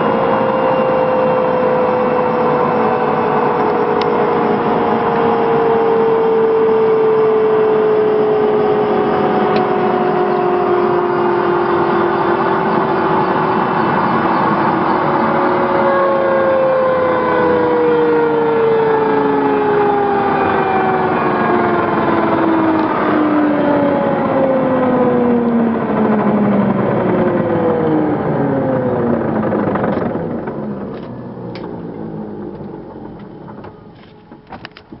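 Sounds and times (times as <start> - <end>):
helicopter engines spooling down: 0.0 - 35.0.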